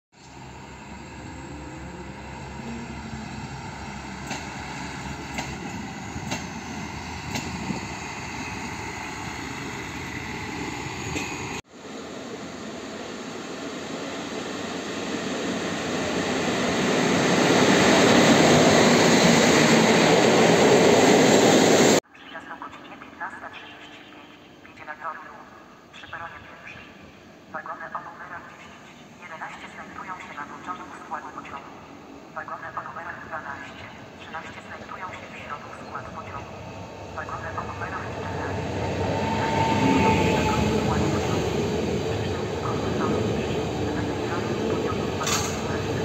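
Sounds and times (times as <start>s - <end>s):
passenger train rushing past: 0.2s - 22.0s, 25.2s - 46.0s
low hum of moving train: 0.2s - 46.0s.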